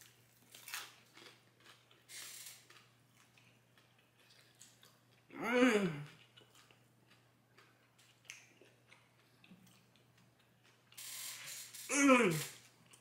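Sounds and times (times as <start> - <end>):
faint chewing: 0.0 - 11.1, 12.4 - 13.0.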